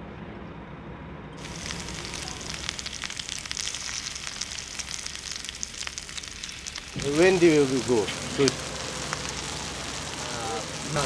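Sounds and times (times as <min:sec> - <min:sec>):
meat sizzling in a pan: 0:01.4 - 0:11.0.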